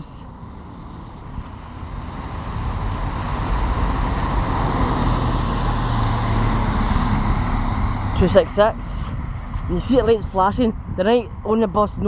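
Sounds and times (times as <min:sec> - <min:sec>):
bus passing close by: 0:00.0 - 0:11.5.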